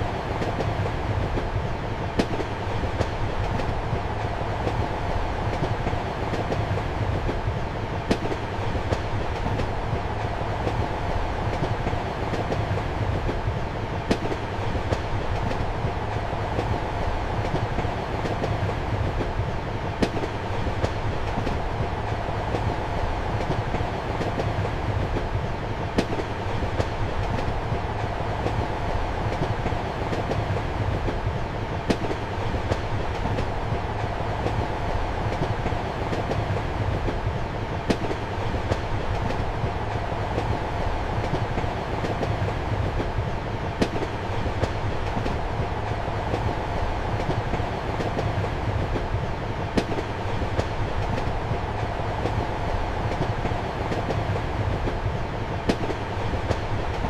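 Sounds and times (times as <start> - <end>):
train rumble inside compartment: 0.0 - 57.0.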